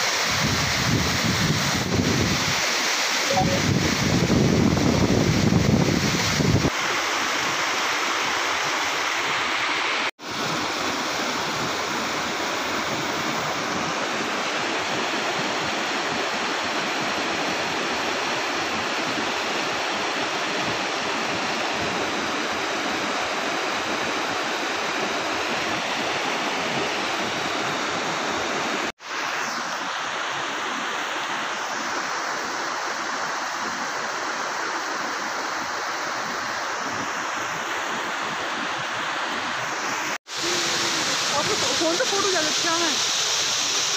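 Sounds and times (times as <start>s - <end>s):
stream and waterfall rushing: 0.0s - 43.9s.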